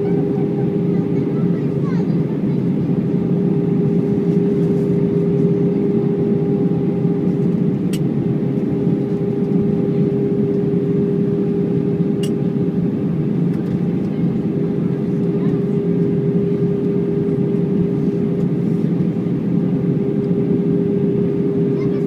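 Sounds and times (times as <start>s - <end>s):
jet engine cabin drone: 0.0s - 22.0s.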